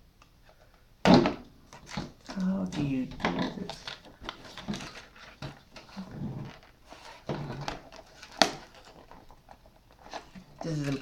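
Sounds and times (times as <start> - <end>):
packaging clicks and rustles: 1.7 - 11.0.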